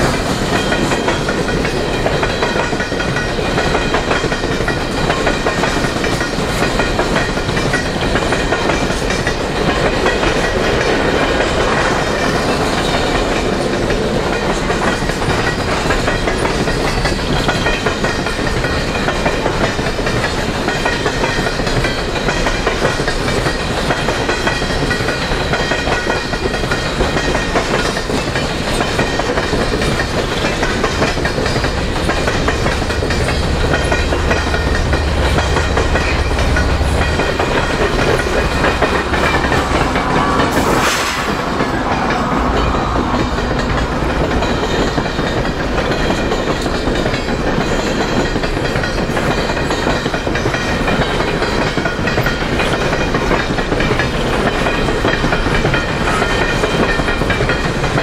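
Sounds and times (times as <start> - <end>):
freight train wheel clatter: 0.0 - 58.0.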